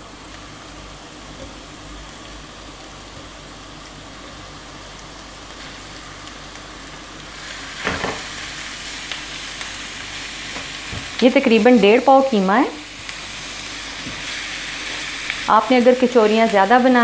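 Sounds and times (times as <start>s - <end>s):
onions sizzling in a frying pan: 0.0s - 17.0s.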